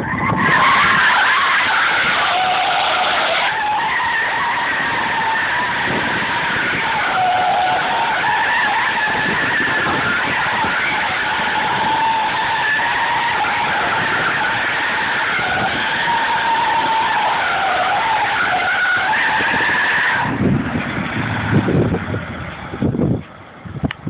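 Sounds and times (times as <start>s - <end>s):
tyres squealing: 0.0s - 22.0s.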